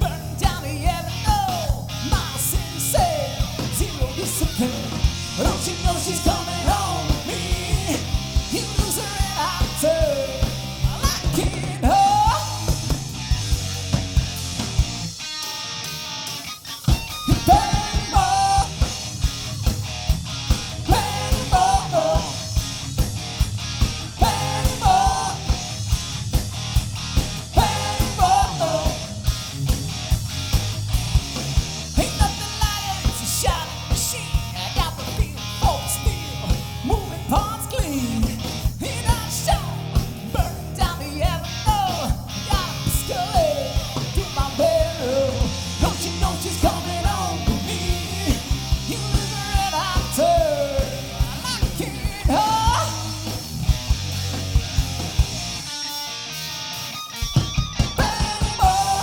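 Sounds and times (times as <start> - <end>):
live hard rock band: 0.0 - 59.0.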